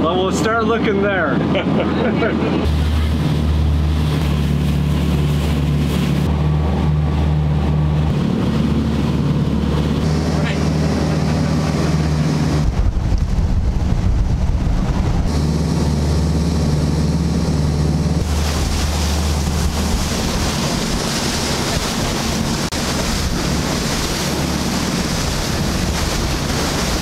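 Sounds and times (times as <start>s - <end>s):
boat engine low drone: 0.0s - 27.0s
water rushing from wake: 0.0s - 27.0s
wind buffeting microphone: 1.1s - 27.0s.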